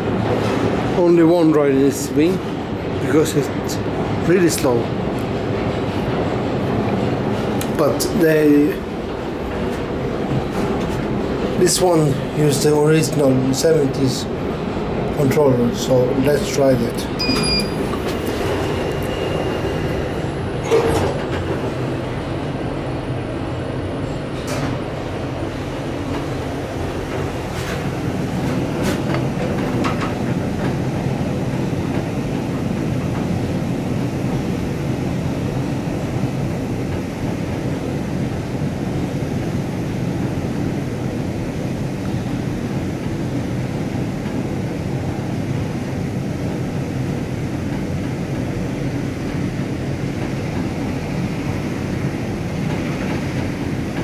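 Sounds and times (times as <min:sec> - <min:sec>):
elevator car rumbling: 0:00.0 - 0:54.0.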